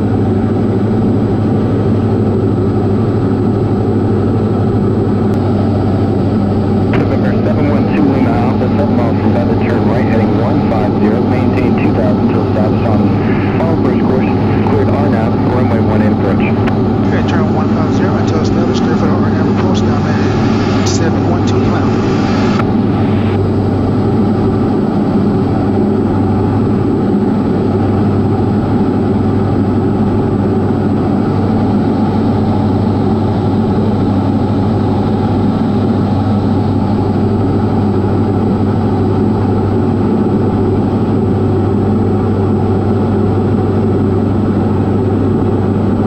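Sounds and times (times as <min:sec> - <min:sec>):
piston engine and propeller drone: 0:00.0 - 0:46.0.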